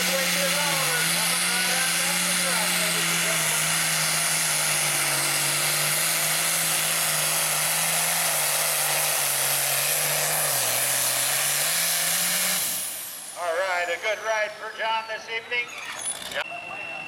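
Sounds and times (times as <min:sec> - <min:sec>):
diesel tractor engine running: 0:00.0 - 0:16.9.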